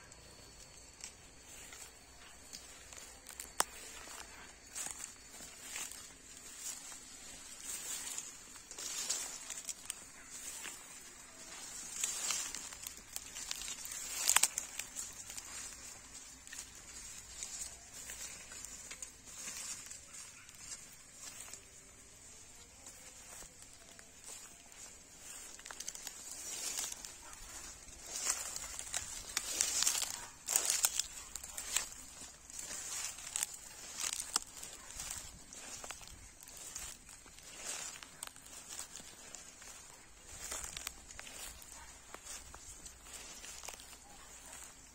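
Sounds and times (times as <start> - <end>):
grass and dry leaves rustling: 0.0 - 44.9.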